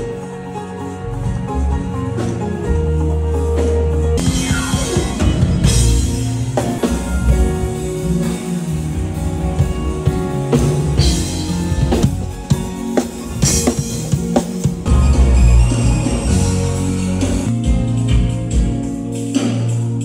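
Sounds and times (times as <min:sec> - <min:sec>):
drum kit: 0:00.0 - 0:20.0
electric guitar: 0:00.0 - 0:20.0
keyboard: 0:00.0 - 0:20.0.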